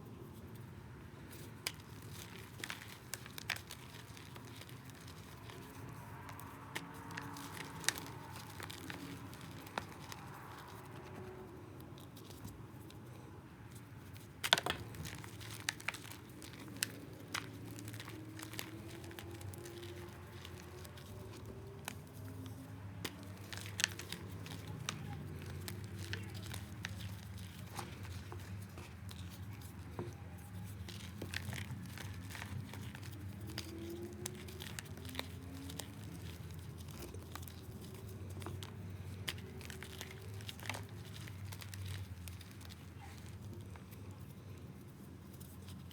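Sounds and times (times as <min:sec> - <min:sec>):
chalk crunching and cracking: 0:00.4 - 0:45.9.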